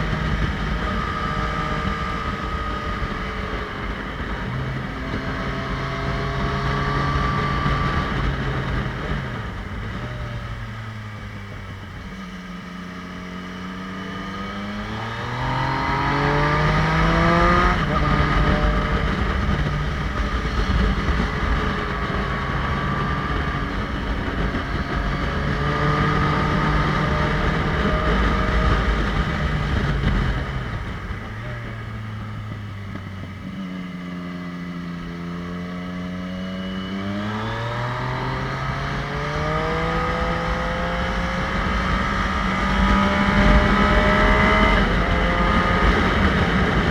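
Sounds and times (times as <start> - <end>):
motorcycle engine accelerating: 0.0 - 46.9
wind rumble: 0.0 - 46.9.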